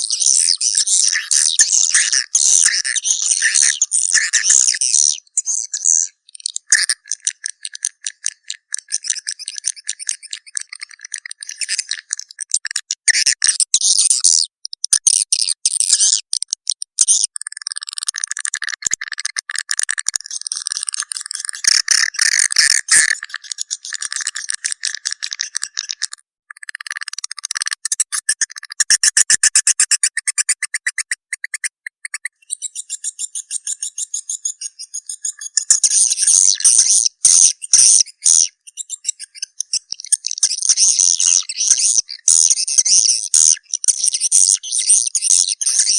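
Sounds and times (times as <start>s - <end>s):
high-pitched bird chittering: 0.0s - 45.9s.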